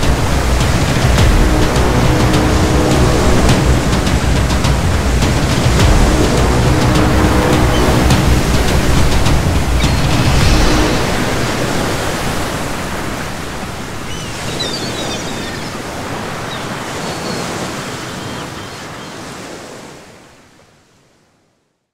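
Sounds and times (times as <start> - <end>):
sea waves washing: 0.0 - 20.6
rushing water: 0.0 - 21.0.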